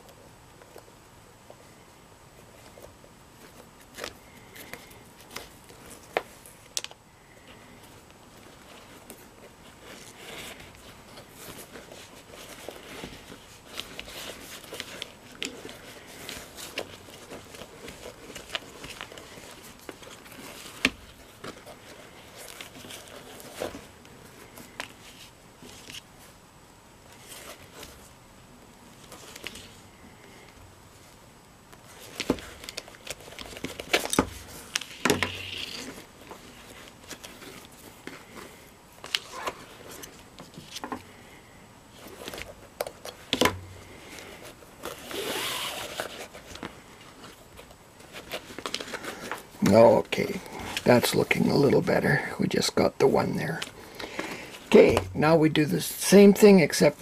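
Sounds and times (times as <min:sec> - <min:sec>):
leather and cord rustling: 0:00.0 - 0:26.4, 0:28.8 - 0:52.2.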